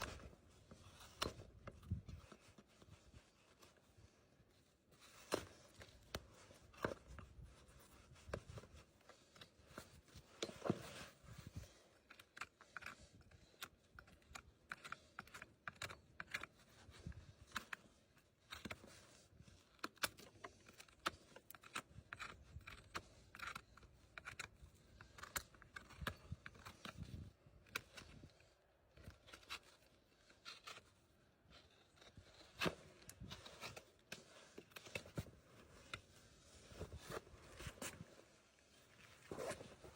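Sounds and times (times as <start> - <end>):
hoof trimming cutting and scraping: 0.0 - 4.2, 5.0 - 39.9.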